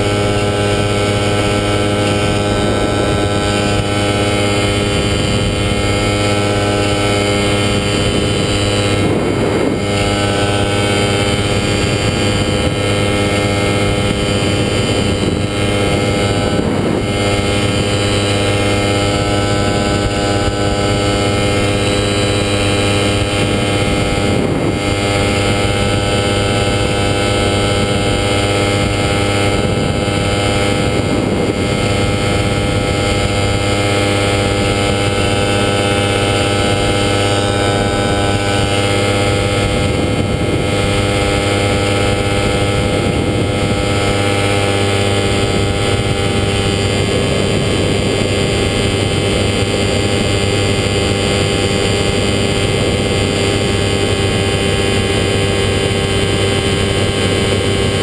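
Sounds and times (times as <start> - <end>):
aircraft engine drone: 0.0 - 58.0
wind noise: 0.0 - 58.0.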